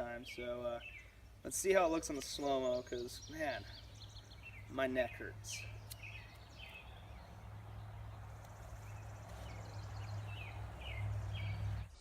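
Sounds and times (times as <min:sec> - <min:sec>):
bird chirping: 0:00.0 - 0:12.0
low steady outdoor rumble: 0:00.0 - 0:12.0.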